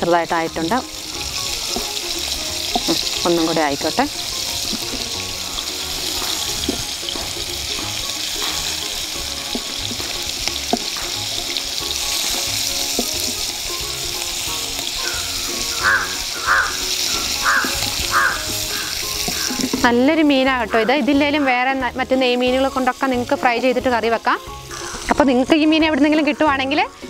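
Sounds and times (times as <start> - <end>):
fish sizzling in oil: 0.0 - 27.0.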